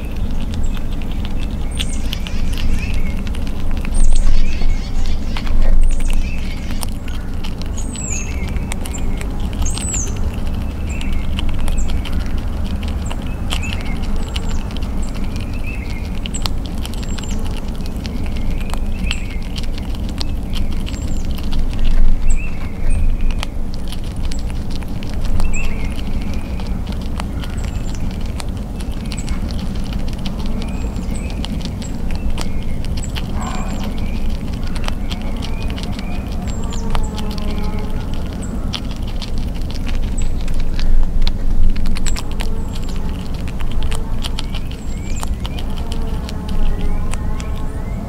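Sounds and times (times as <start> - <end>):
small birds chirping: 0.0 - 48.0
squirrel crunching nuts: 0.0 - 48.0
steady low rumble: 0.0 - 48.0.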